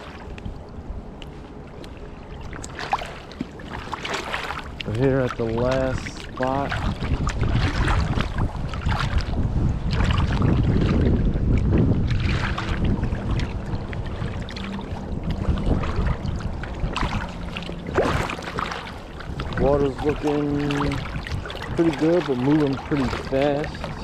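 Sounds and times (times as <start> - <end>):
wind buffeting microphone: 0.0 - 24.0
creek water flowing fast: 2.6 - 9.4, 10.0 - 24.0.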